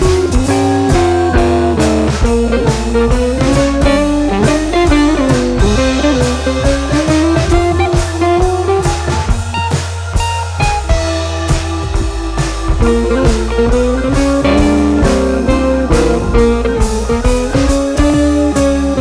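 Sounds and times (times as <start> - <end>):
blues music with guitar: 0.0 - 19.0.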